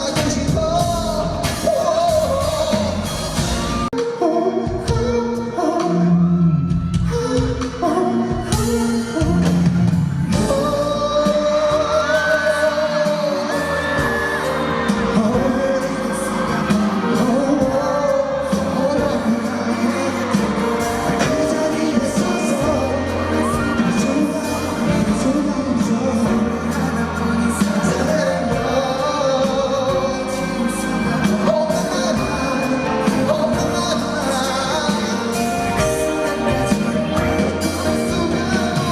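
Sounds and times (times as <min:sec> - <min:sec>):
band playing: 0:00.0 - 0:38.9
man singing with vibrato: 0:00.0 - 0:38.9.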